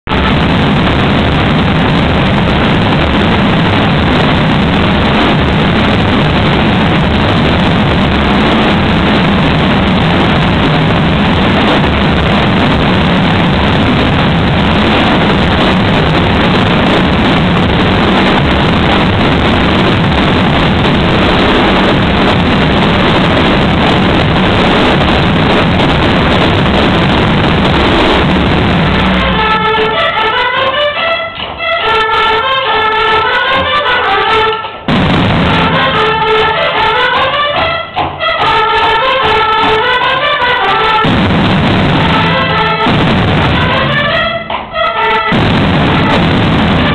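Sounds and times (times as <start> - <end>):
crowd din: 0.0 - 31.8, 33.2 - 40.2, 40.9 - 46.9.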